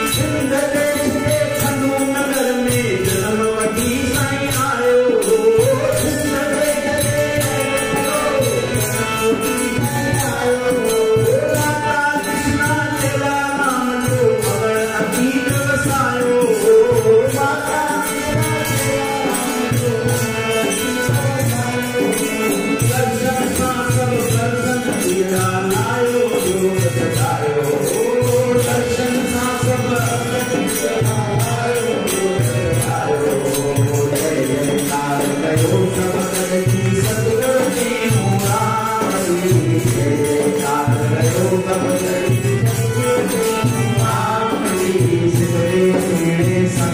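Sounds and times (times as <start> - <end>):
devotional singing with harmonium: 0.0 - 46.9
high rattling percussion: 0.0 - 46.9.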